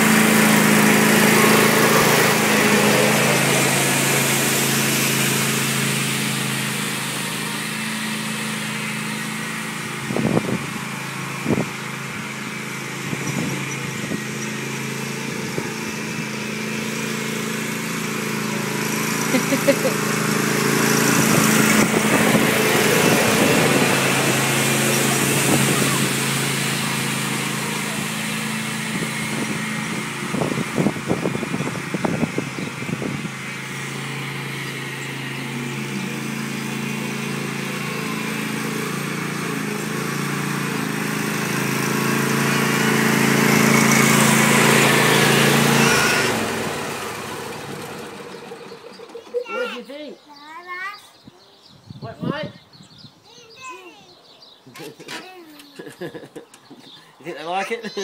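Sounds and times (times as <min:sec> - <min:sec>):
lawn mower engine running: 0:00.0 - 0:49.8.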